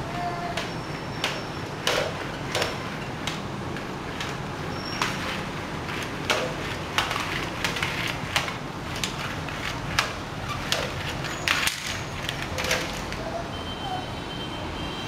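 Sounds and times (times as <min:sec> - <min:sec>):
sharp clicks and knocks: 0:00.5 - 0:04.4, 0:05.0 - 0:13.2.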